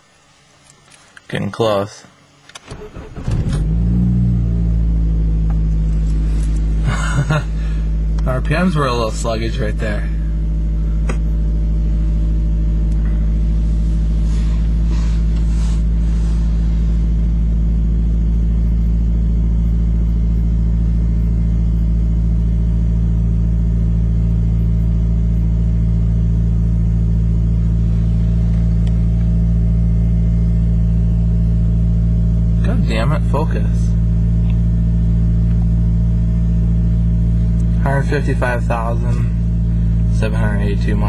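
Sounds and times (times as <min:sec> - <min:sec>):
car engine idling: 0:02.3 - 0:41.0.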